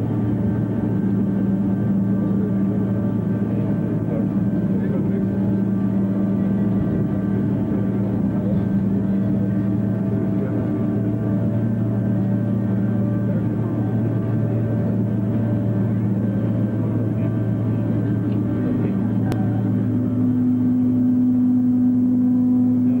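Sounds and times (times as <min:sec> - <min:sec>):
higher engine hum: 0:00.0 - 0:23.0
jet engines droning: 0:00.0 - 0:23.0.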